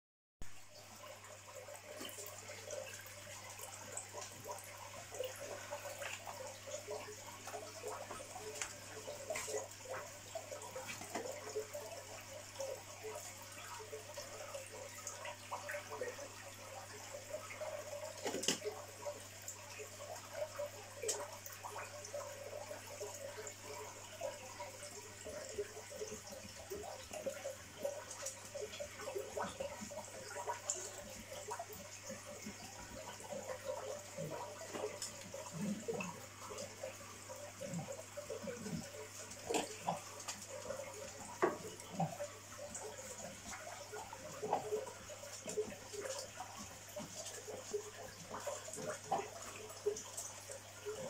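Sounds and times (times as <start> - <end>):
water bubbling and splashing: 0.4 - 51.0.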